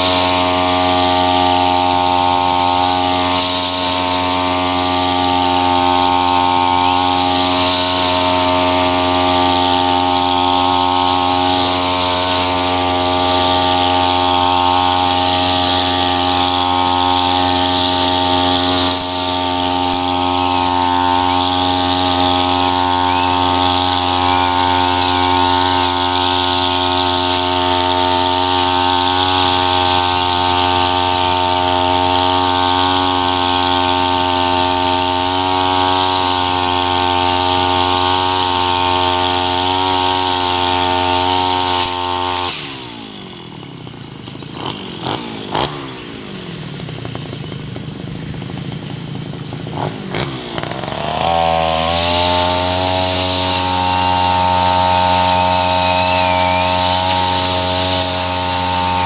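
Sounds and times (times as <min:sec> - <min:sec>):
brush cutter engine running: 0:00.0 - 0:59.0
trimmer head cutting grass: 0:00.0 - 0:59.0.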